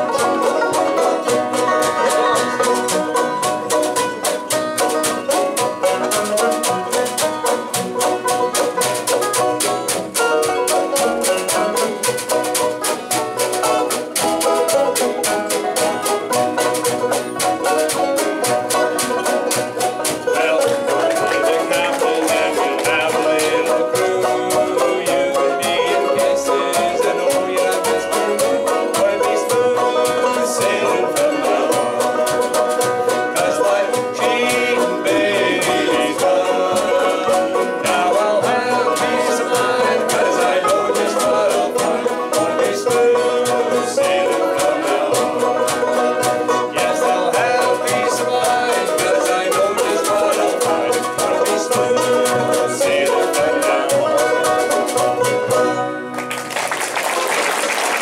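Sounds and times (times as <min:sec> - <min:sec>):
guitar: 0:00.0 - 0:56.6
banjos picking: 0:00.0 - 0:58.0
hand drum beat: 0:00.0 - 0:58.0
mandolin: 0:00.0 - 0:58.0
upright bass: 0:00.0 - 0:58.0.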